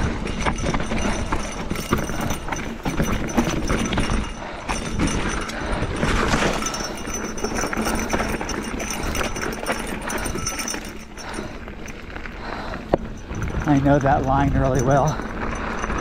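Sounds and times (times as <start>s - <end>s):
bike knocks and rattles: 0.0s - 16.0s
bike tyres on dirt trail: 0.0s - 16.0s.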